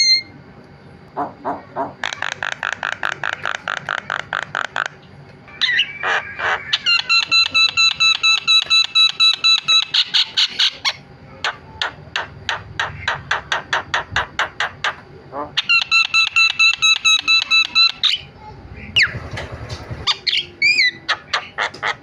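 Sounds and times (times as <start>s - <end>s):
bird chattering: 1.2s - 19.3s, 20.0s - 22.0s.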